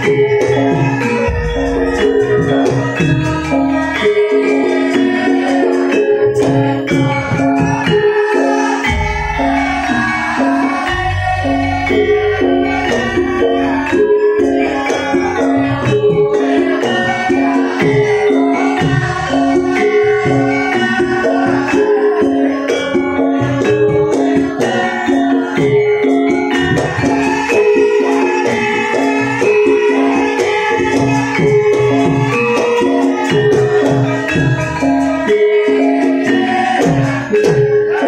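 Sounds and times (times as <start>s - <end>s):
metallophones playing melody: 0.0s - 38.0s.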